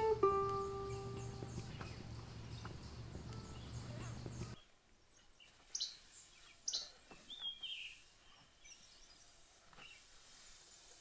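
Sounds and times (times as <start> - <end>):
bird chirps: 0.0 - 10.1.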